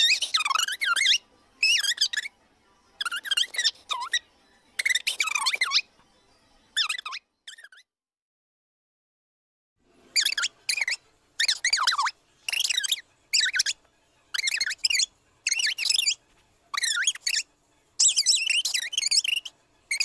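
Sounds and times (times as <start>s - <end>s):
squeaky sped-up voice chatter: 0.0s - 6.0s, 6.8s - 7.9s, 10.1s - 20.0s.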